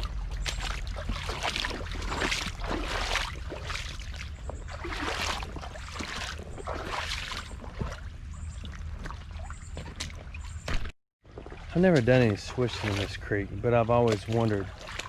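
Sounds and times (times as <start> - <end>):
boots splashing through water: 0.0 - 15.0
constant low rumble: 0.0 - 15.0.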